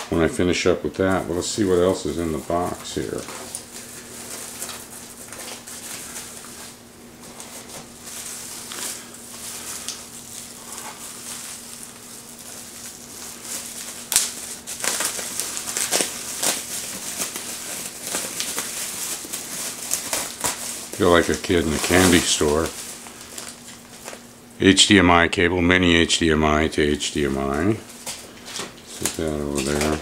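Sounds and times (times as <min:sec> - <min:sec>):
bubble wrap crinkling and crackling: 0:00.0 - 0:24.6, 0:26.2 - 0:30.0.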